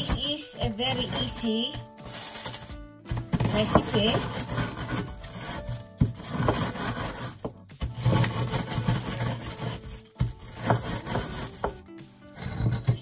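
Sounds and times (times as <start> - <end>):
rolling pin crushing biscuits: 0.0 - 13.0.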